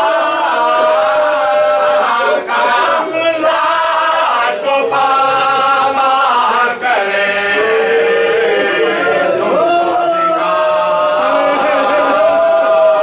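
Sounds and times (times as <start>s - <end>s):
men chanting unaccompanied: 0.0s - 13.0s.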